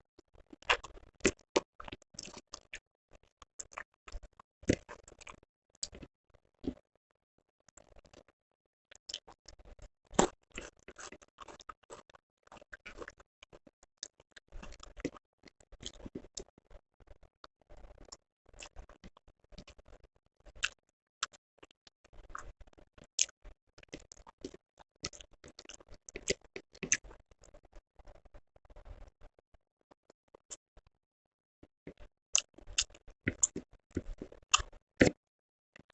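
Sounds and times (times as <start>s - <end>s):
wet chewing and mouth clicks: 0.4s - 6.8s, 7.7s - 8.3s, 9.0s - 29.3s, 31.9s - 35.2s.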